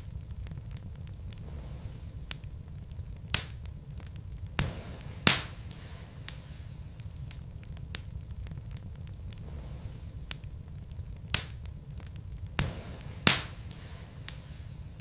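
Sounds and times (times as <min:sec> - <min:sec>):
fire low rumble: 0:00.0 - 0:15.0
logs popping and crackling: 0:00.0 - 0:15.0.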